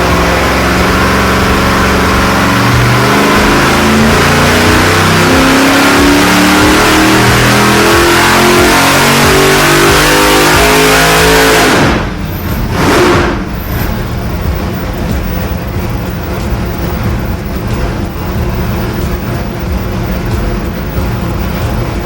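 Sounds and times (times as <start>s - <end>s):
engine revving at high revs: 0.0s - 22.0s.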